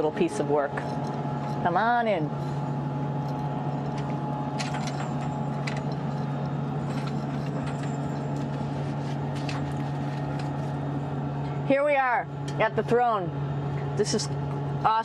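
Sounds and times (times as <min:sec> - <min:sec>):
ventilation fans humming: 0:00.0 - 0:15.0.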